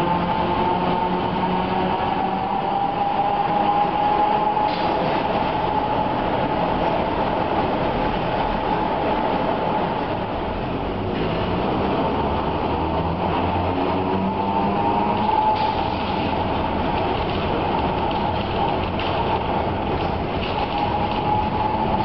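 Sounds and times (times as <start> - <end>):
tram running on rails: 0.0 - 22.0.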